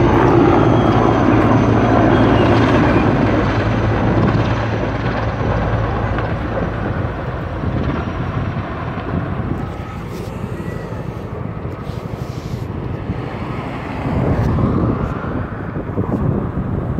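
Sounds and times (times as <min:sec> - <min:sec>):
helicopter rotors and engines droning: 0:00.0 - 0:16.9
wind on microphone: 0:00.0 - 0:16.9.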